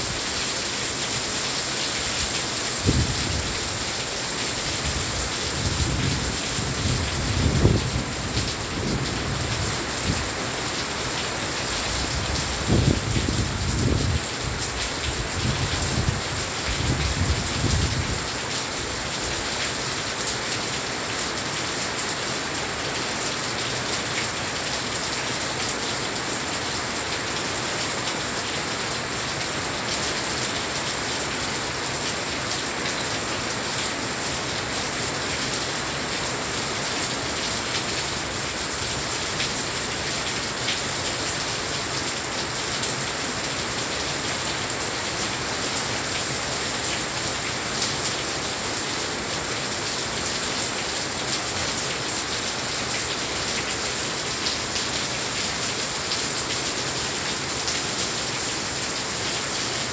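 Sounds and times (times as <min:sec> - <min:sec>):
heavy rain on glass panels: 0:00.0 - 0:59.9.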